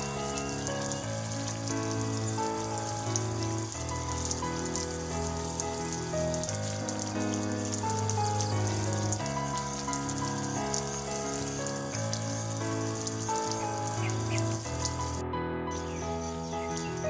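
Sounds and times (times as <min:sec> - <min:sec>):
sprinkler spraying water: 0:00.0 - 0:15.2, 0:15.8 - 0:17.0
background music with held chords: 0:00.0 - 0:17.0.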